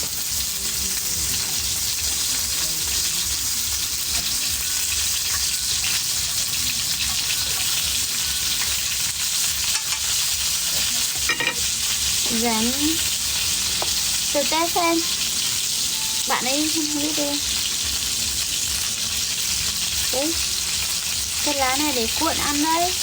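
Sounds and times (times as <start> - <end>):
wood fire crackling and sizzling: 0.0 - 23.0.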